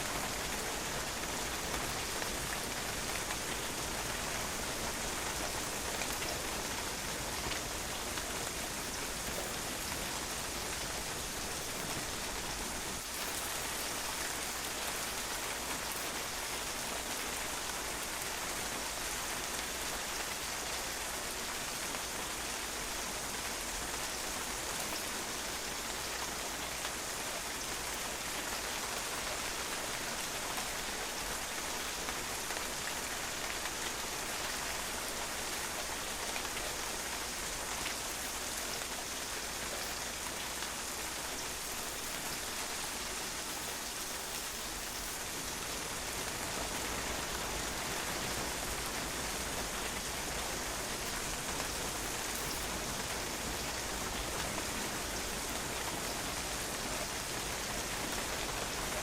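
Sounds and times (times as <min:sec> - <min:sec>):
rain pattering on a patio: 0:00.0 - 0:59.0.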